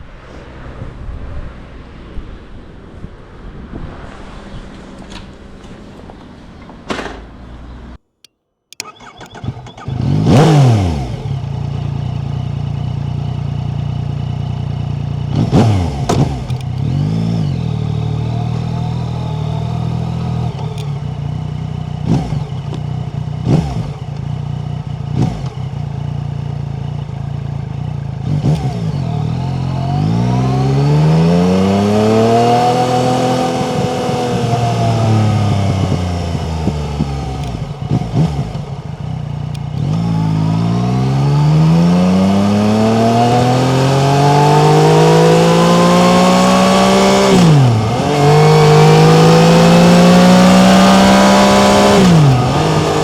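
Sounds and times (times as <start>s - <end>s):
motorcycle engine starting and revving: 0.0s - 8.0s, 8.7s - 53.0s.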